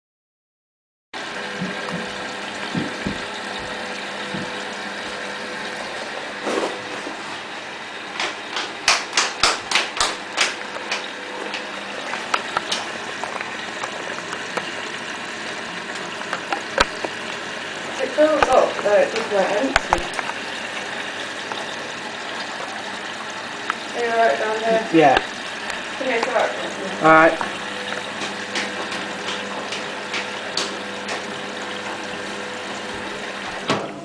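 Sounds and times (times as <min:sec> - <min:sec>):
washing machine humming: 0:01.2 - 0:34.0.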